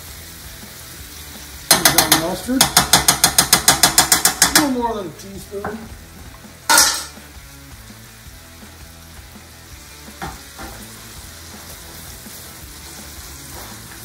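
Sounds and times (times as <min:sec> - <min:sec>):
sauce sizzling in a skillet: 0:00.0 - 0:14.0.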